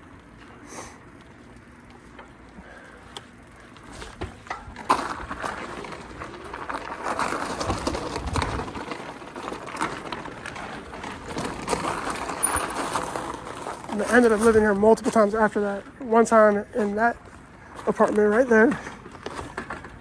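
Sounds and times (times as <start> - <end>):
tyres on road: 0.0 - 20.0.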